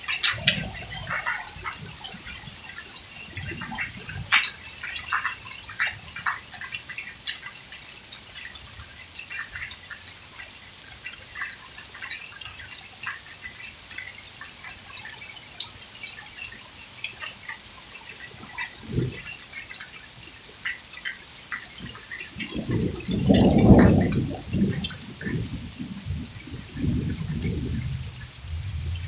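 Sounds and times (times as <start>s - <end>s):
running and dripping water: 0.0s - 29.0s.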